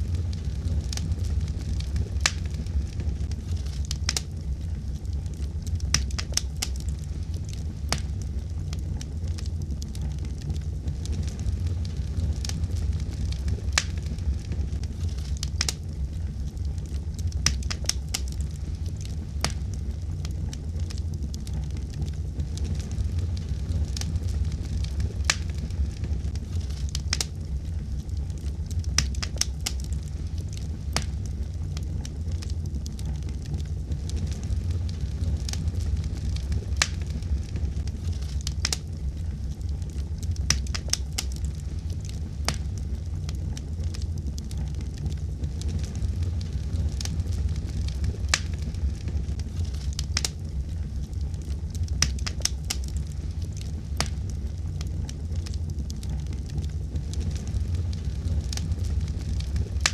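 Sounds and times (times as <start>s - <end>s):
fire crackles and pops: 0.0s - 59.9s
fire low rumble: 0.0s - 59.9s.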